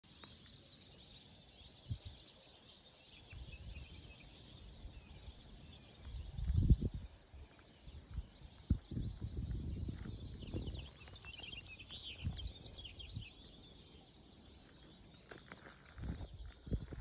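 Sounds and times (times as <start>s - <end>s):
birds chirping and calling: 0.0s - 17.0s
wind rumble on microphone: 1.6s - 2.3s, 3.2s - 17.0s.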